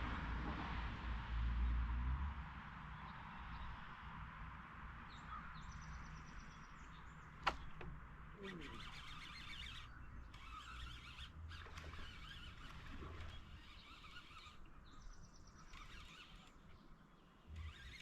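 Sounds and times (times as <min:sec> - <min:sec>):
birds calling faintly: 0:03.0 - 0:18.0.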